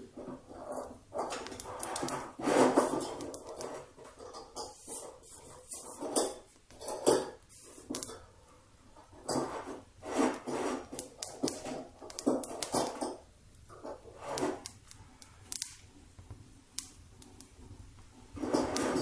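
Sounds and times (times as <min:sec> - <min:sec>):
rustling and handling noises: 0:00.0 - 0:19.0.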